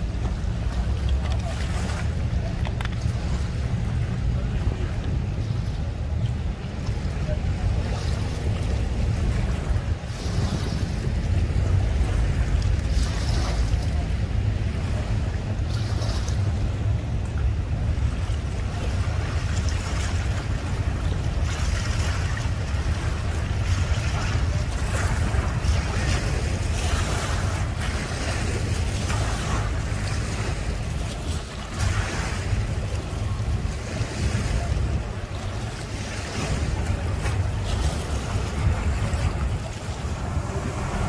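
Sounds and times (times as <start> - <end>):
outboard boat motors running: 0.0 - 41.0
water at dock: 0.0 - 41.0
wind buffeting microphone: 0.0 - 41.0.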